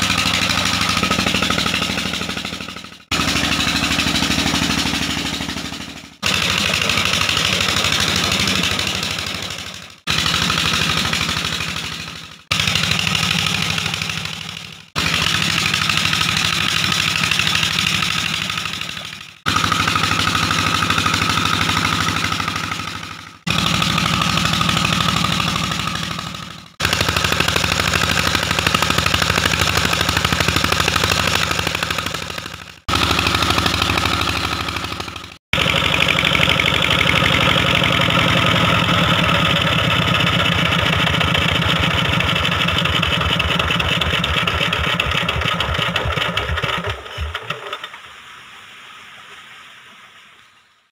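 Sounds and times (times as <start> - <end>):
diesel engine running: 0.0 - 47.8.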